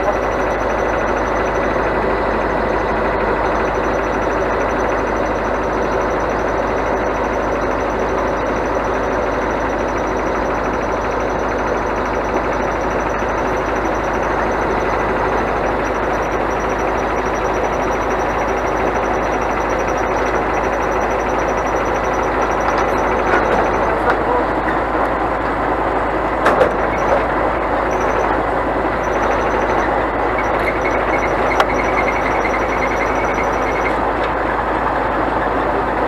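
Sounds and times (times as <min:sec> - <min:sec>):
rapid high-pitched beeping: 0:00.0 - 0:26.0, 0:26.7 - 0:34.4
truck engine and road noise: 0:00.0 - 0:36.0.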